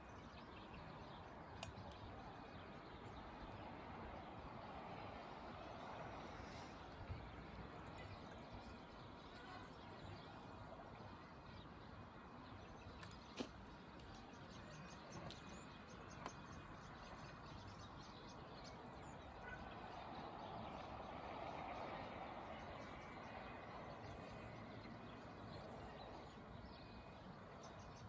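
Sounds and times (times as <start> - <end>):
distant town noise: 0.0 - 28.0.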